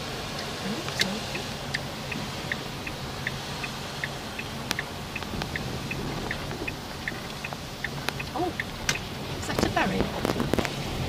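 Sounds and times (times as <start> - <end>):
turn-signal relay ticking: 0.0 - 10.2
car engine and road noise: 0.0 - 11.0.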